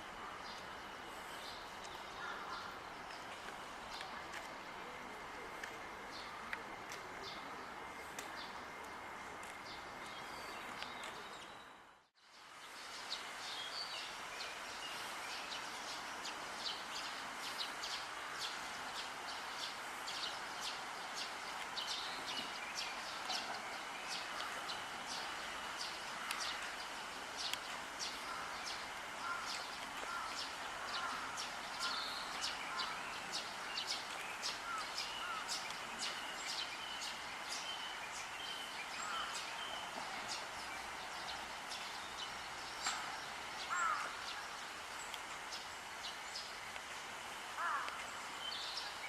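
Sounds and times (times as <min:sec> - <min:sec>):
steady hiss: 0:00.0 - 0:11.2, 0:12.3 - 0:49.0.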